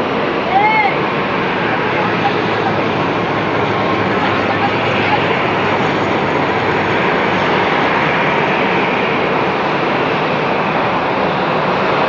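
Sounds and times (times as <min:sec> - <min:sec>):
airliner engines running: 0:00.0 - 0:12.0.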